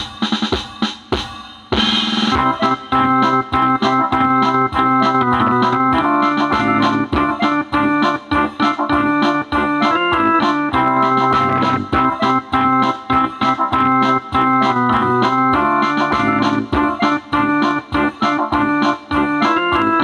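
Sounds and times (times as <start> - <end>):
programmed beat: 0.0 - 20.0
electronic keyboard organ chords: 2.3 - 20.0.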